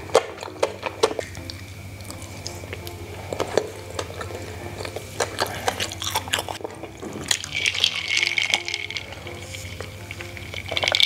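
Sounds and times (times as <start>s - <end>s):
chewing sticky food: 0.0s - 11.0s.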